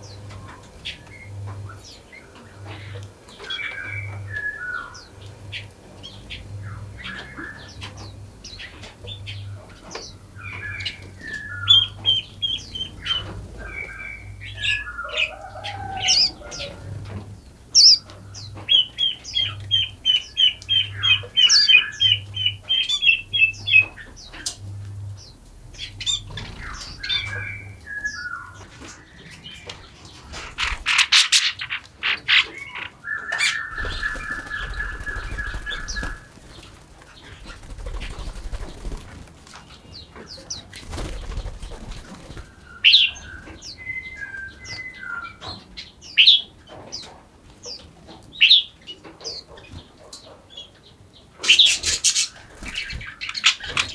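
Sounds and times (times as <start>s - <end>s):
songbirds singing and calling: 0.0s - 53.9s.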